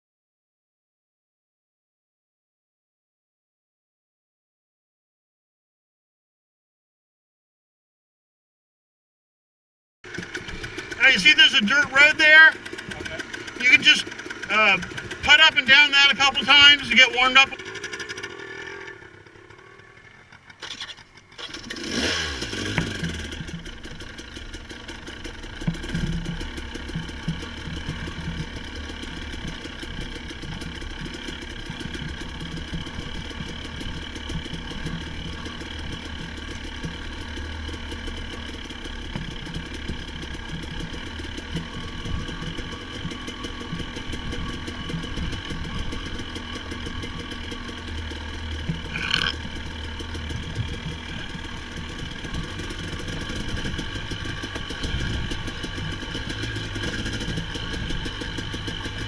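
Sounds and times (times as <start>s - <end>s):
engine starting and revving: 10.1s - 59.0s.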